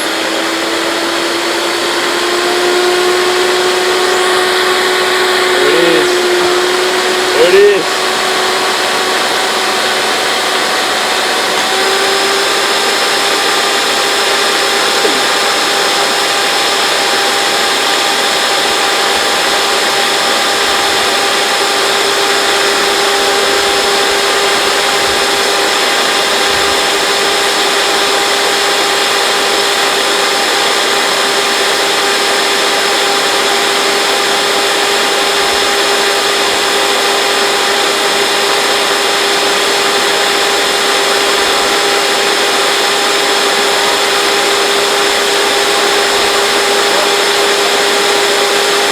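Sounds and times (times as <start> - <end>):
vacuum cleaner motor whining: 0.0 - 48.9.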